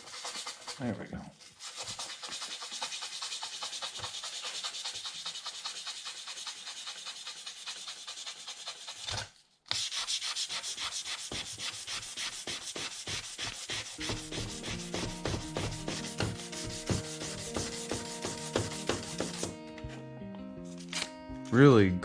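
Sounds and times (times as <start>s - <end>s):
sandpaper rubbing: 0.0s - 19.6s.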